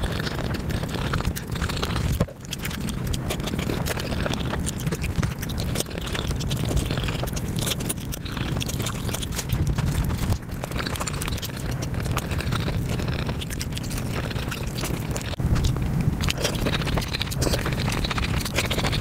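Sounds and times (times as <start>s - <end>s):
sped-up chewing clicks: 0.0s - 19.0s.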